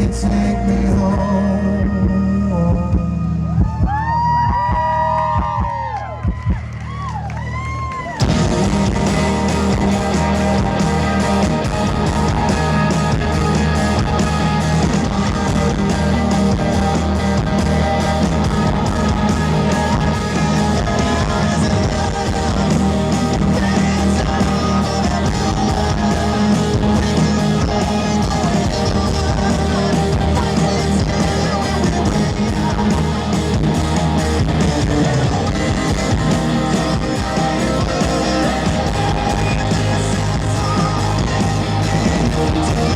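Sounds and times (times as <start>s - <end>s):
live rock band music: 0.0s - 5.6s, 7.5s - 42.9s
electric guitar: 0.0s - 42.9s.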